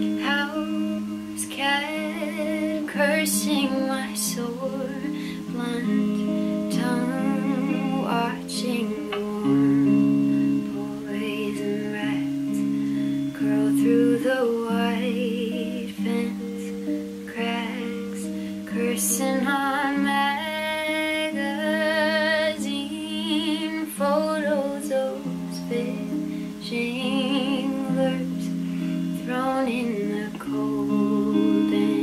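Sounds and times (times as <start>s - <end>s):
acoustic guitar: 0.0s - 32.0s
woman singing with vibrato: 0.0s - 32.0s.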